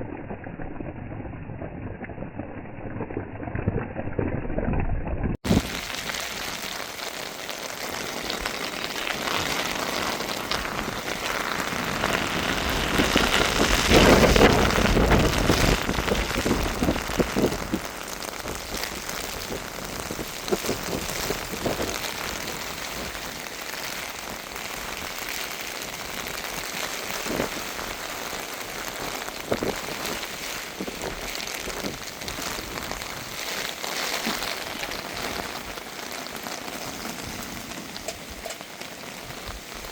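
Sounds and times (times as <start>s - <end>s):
heavy rain falling: 5.4s - 39.9s.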